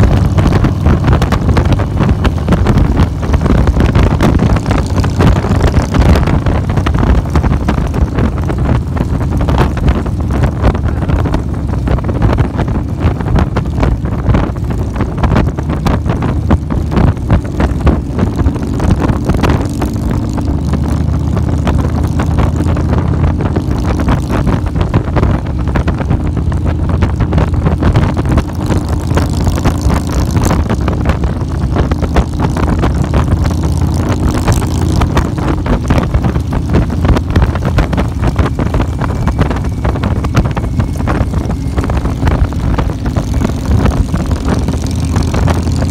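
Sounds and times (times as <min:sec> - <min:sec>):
motorcycle engine running: 0:00.0 - 0:45.9
wind buffeting microphone: 0:00.0 - 0:45.9.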